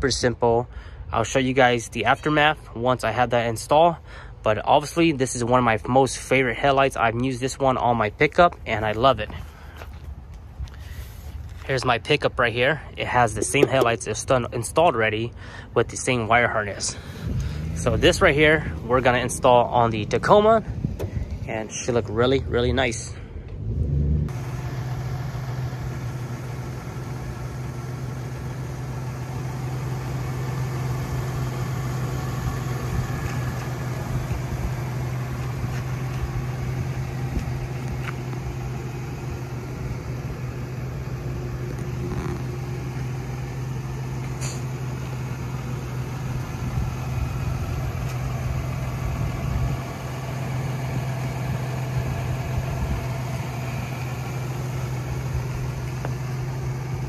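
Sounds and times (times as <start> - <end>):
pickup engine idling: 0.6 - 23.7, 24.3 - 57.0.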